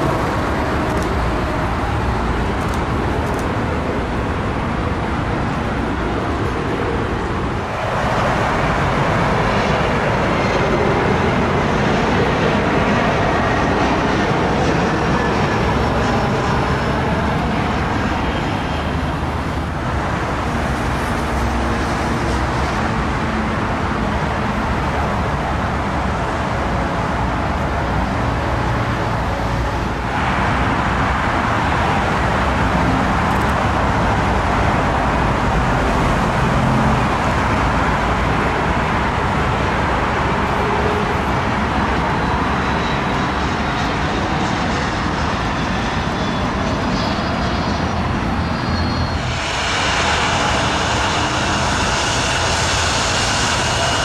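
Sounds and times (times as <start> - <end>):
jet aircraft roar: 0.0 - 54.0.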